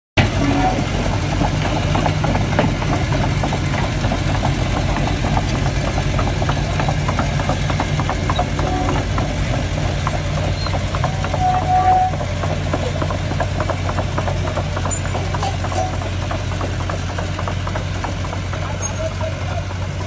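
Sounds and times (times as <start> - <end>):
heavy machinery diesel engines running: 0.1 - 20.0.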